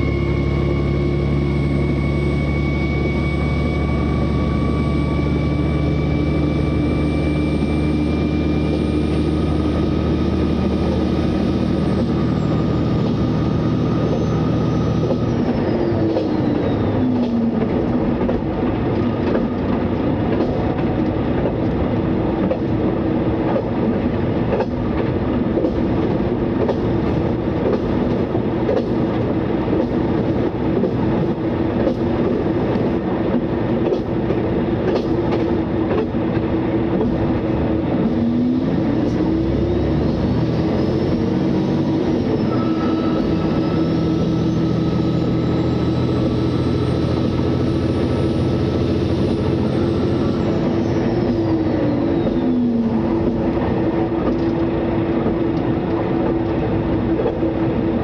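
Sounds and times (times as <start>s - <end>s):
diesel railcar engine accelerating: 0.0s - 58.0s.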